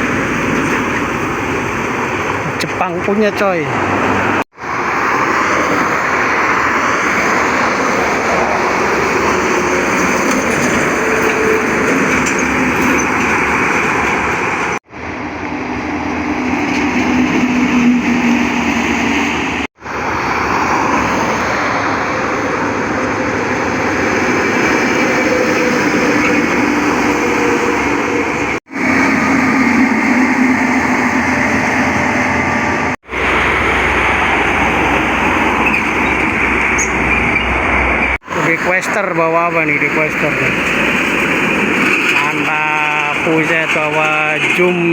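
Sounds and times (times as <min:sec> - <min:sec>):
diesel engine drone: 0:00.0 - 0:44.9
tyres rushing on road: 0:00.0 - 0:44.9.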